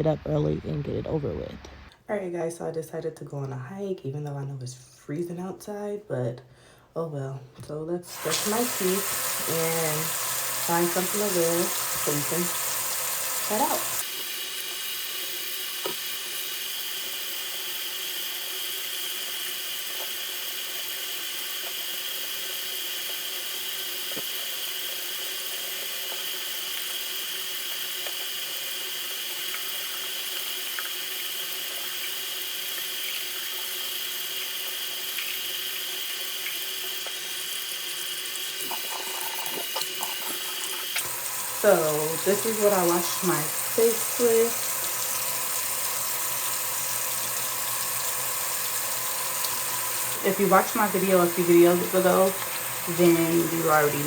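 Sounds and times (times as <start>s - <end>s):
water running from sink tap: 8.1s - 54.0s.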